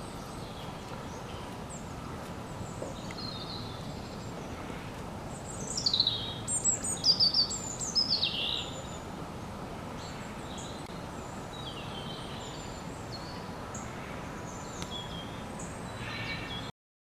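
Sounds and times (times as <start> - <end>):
birds chirping: 0.0 - 16.7
steady background hiss: 0.0 - 16.7.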